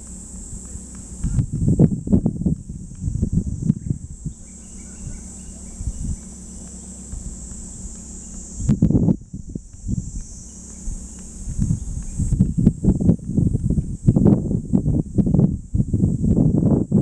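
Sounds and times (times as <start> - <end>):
insects buzzing: 0.0 - 17.0
wind rumbling on microphone: 0.0 - 17.0.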